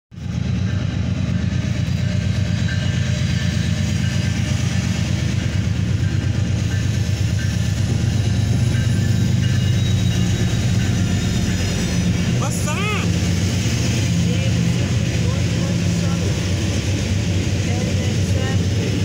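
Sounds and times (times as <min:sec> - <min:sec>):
freight train rumbling: 0:00.1 - 0:19.0.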